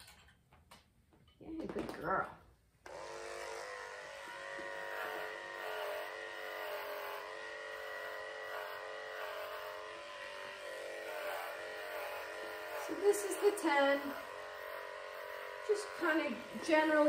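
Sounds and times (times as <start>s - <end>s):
electric clippers buzzing: 2.8s - 17.0s.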